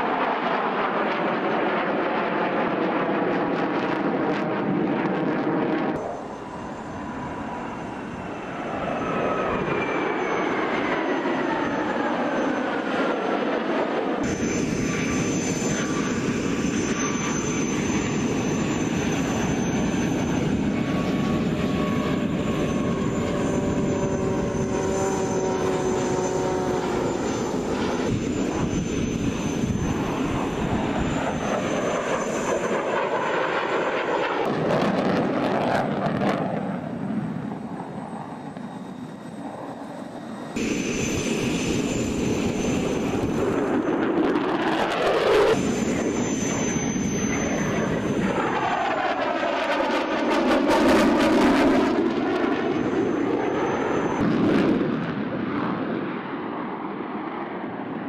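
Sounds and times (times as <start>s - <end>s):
jet aircraft flying past: 0.0s - 58.0s.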